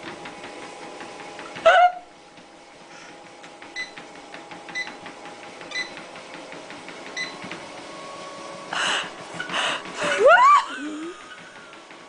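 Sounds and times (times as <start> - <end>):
treadmill motor hum and belt: 0.0 - 12.0.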